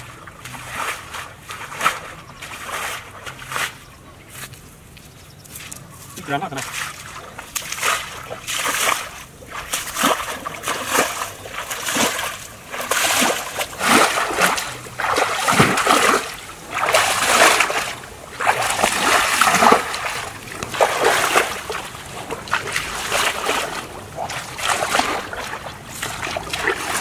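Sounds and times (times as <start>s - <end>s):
feet wading through muddy water: 0.0s - 27.0s.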